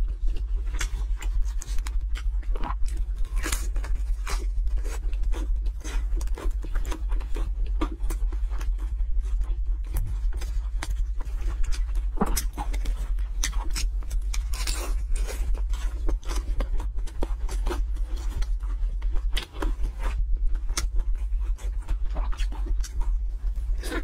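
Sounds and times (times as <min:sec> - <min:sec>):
steady low hum: 0:00.0 - 0:24.0
wet chewing of food: 0:00.0 - 0:24.0.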